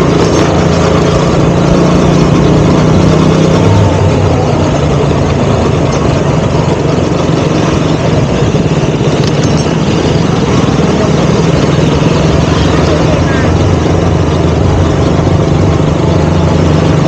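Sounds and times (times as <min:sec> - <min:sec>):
motorcycle engine running: 0:00.0 - 0:17.0
road and wind noise: 0:00.0 - 0:17.0.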